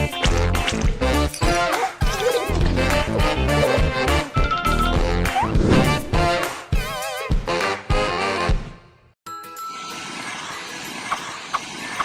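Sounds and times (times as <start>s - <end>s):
upbeat cartoon music: 0.0s - 12.0s.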